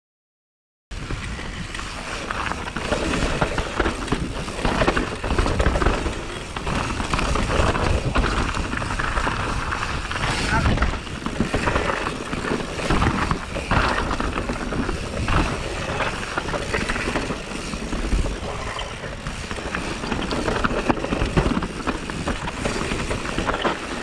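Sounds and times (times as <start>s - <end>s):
rush of noise: 1.0s - 21.5s
bike rattling and knocking: 1.0s - 24.0s
tyres crunching over gravel: 2.1s - 24.0s.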